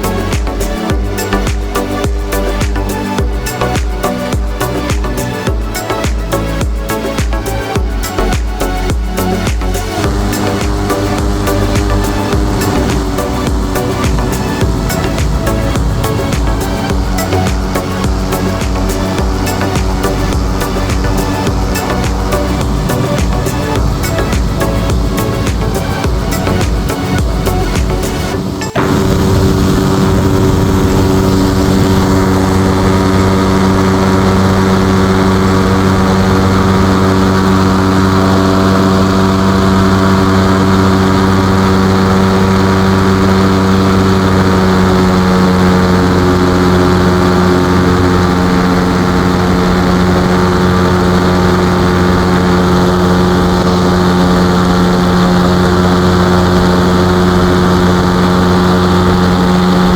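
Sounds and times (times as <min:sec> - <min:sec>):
ultralight aircraft engine drone: 0:00.0 - 0:59.9.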